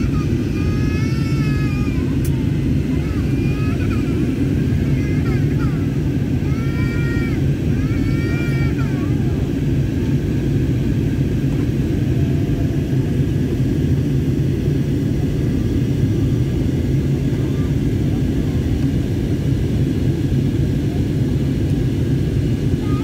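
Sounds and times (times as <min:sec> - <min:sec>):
jet cabin engine rumble: 0:00.0 - 0:23.0.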